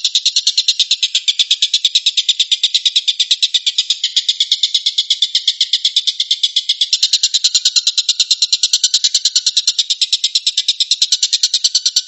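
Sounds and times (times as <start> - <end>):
bird rapid harsh call: 0.0 - 12.0.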